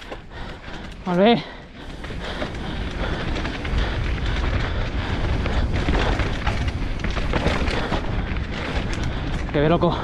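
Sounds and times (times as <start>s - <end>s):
knocks and rattles over rocks: 0.0s - 10.0s
wind rumble on microphone: 0.0s - 10.0s.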